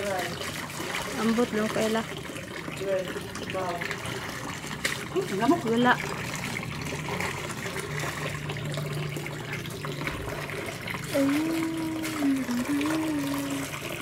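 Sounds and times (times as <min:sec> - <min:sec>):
tap water running into basin: 0:00.0 - 0:14.0
water splashing and sloshing: 0:00.0 - 0:14.0.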